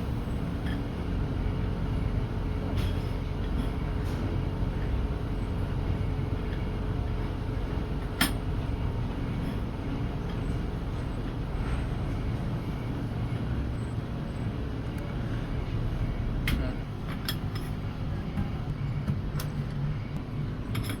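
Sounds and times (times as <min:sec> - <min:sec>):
workshop machinery humming: 0:00.0 - 0:21.0.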